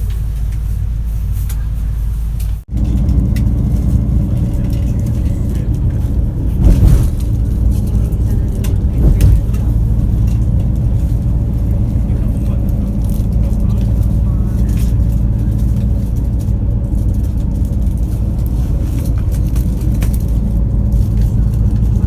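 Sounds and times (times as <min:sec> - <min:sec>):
road rumble: 0:00.0 - 0:22.0
vehicle engine drone: 0:00.0 - 0:22.0.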